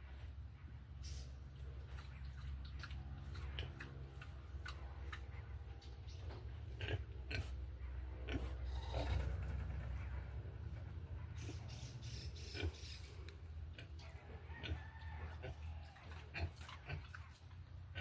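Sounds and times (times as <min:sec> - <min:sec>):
steady low hum: 0:00.0 - 0:18.0
pigs grunting: 0:01.6 - 0:18.0.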